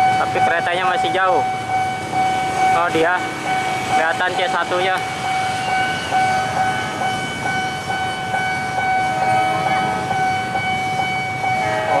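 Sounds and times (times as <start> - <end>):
level crossing alarm: 0.0 - 12.0
low rumble of trains: 0.0 - 12.0.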